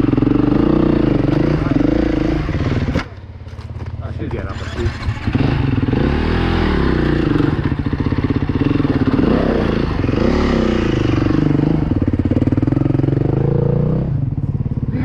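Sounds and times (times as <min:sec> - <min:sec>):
dirt bike engine revving: 0:00.0 - 0:03.2, 0:04.3 - 0:15.0.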